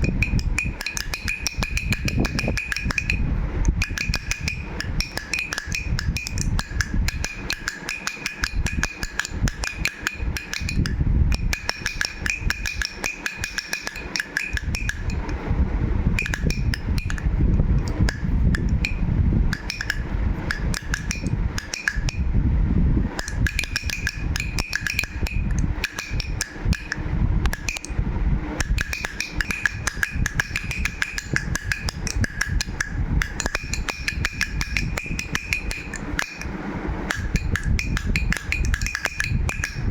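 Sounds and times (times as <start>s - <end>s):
toy rattle shaken: 0.0s - 15.3s, 17.9s - 22.3s, 23.2s - 28.0s, 28.6s - 36.5s, 37.1s - 39.9s.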